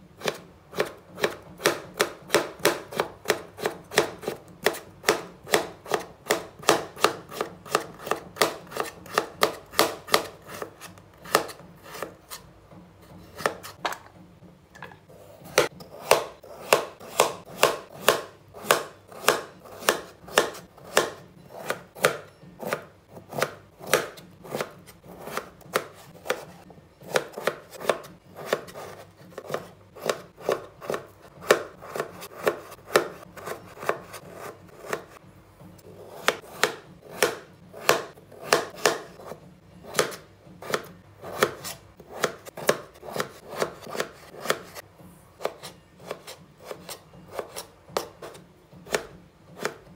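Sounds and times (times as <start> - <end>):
knife chopping on wooden board: 0.2 - 14.2, 14.8 - 49.9.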